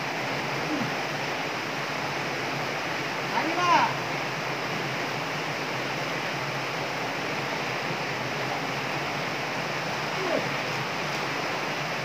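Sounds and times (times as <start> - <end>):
water rushing over concrete step: 0.0 - 12.0.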